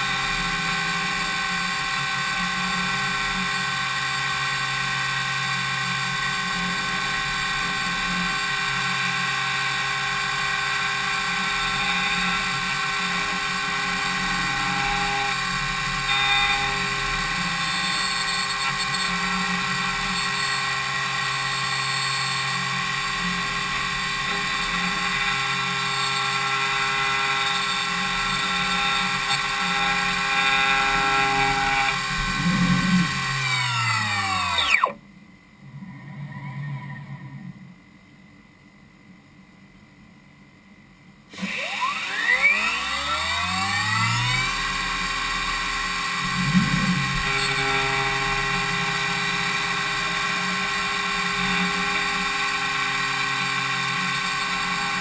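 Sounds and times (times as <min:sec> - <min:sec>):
milling machine high-pitched whine: 0:00.0 - 0:38.0, 0:41.3 - 0:55.0.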